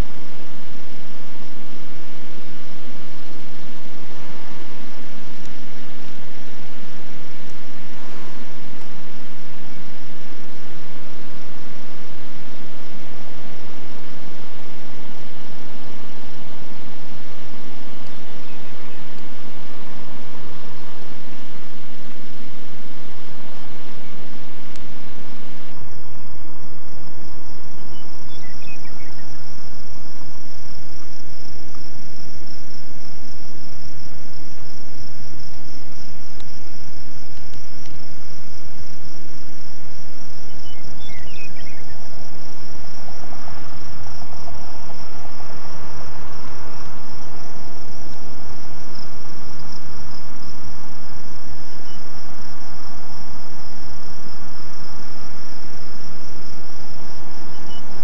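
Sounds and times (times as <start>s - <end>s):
high-pitched insect chorus: 0.0s - 58.0s
low steady hum: 0.0s - 58.0s.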